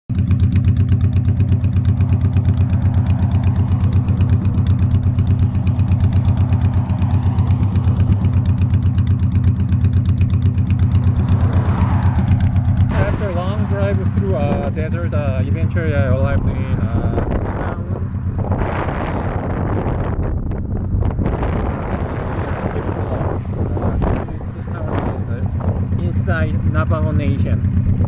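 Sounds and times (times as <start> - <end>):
motorcycle engine running steadily: 0.0 - 28.0.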